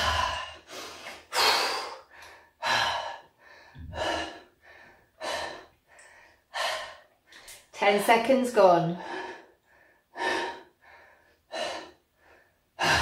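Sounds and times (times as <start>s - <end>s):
man breathing hard: 0.0s - 7.5s, 9.0s - 13.0s.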